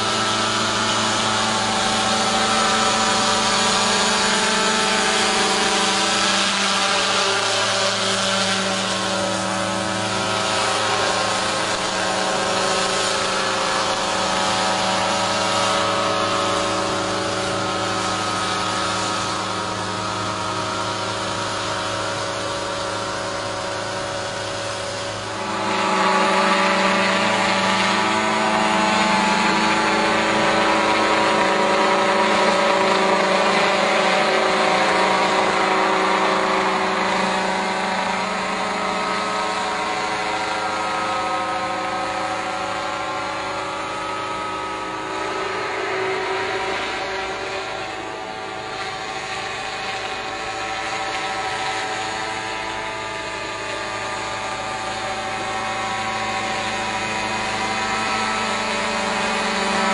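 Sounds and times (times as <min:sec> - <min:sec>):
drone propellers humming: 0:00.0 - 0:59.9.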